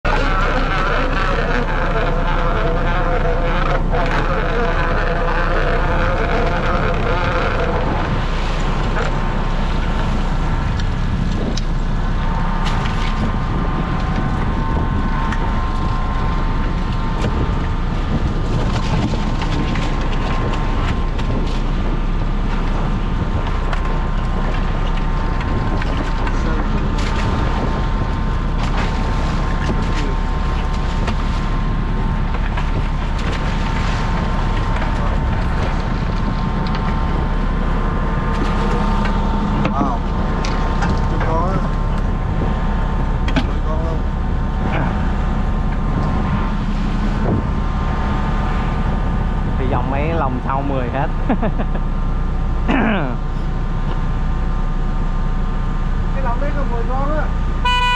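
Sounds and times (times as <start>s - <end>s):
boat engine and hydraulic hauler: 0.0s - 57.9s
higher drone: 0.0s - 57.9s
wind noise on microphone: 0.0s - 57.9s.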